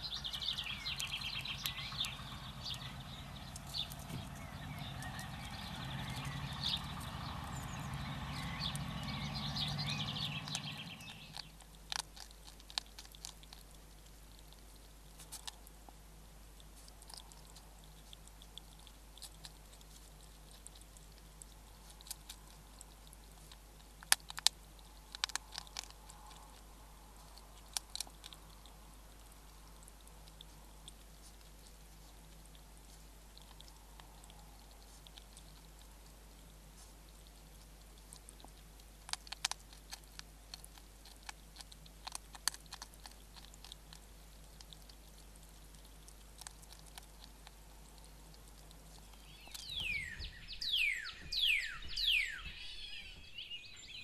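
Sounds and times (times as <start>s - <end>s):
hedgehog chewing crunches: 0.0s - 54.0s.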